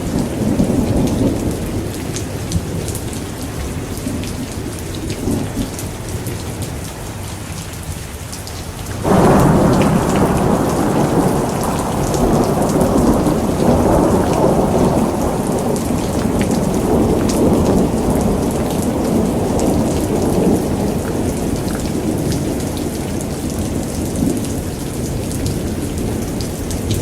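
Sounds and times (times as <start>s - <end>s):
rolling thunder: 0.0s - 6.2s, 9.0s - 27.0s
heavy rain with drop hits: 0.0s - 27.0s.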